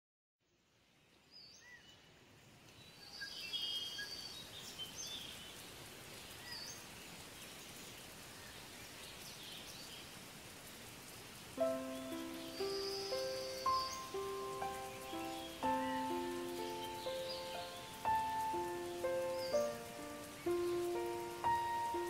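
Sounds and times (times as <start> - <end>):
steady outdoor hiss: 0.5 - 22.0.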